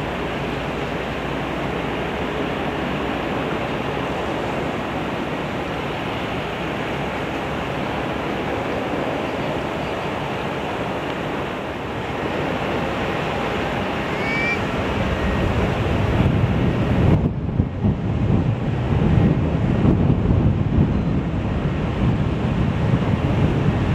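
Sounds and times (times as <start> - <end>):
choppy water washing: 0.0 - 23.9
wind buffeting microphone: 0.0 - 23.9.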